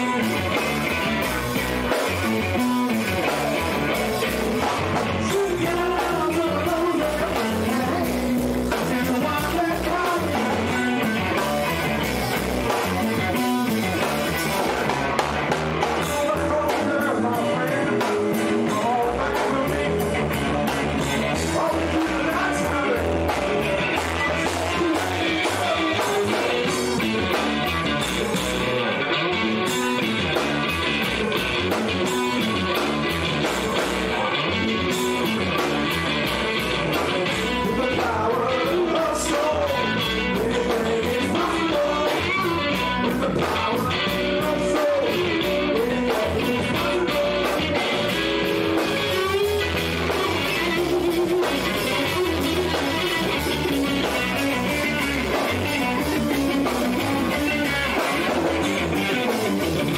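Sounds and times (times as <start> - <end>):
electric guitar: 0.0 - 59.9
live rock band playing: 0.0 - 59.9
man singing: 0.0 - 59.9.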